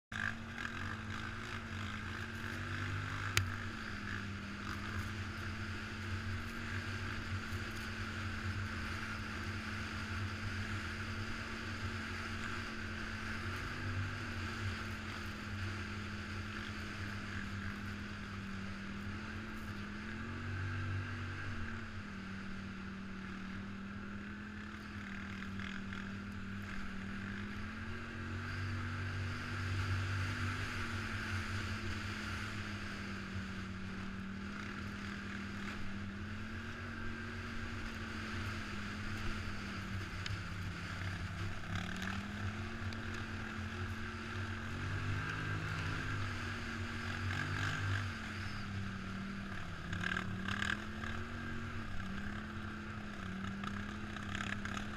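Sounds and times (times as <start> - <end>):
atv engine revving: 0.1 - 54.9.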